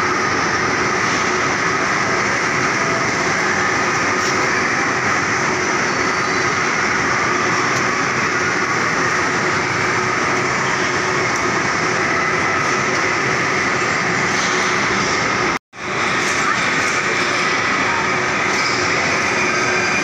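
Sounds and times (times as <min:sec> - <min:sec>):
electric bumper cars rumbling: 0:00.0 - 0:20.0.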